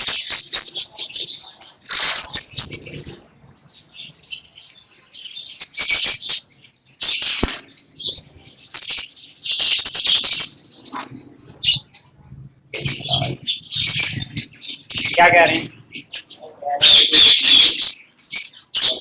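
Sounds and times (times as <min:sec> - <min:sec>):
parakeets squawking: 0:00.0 - 0:12.2, 0:12.8 - 0:19.0.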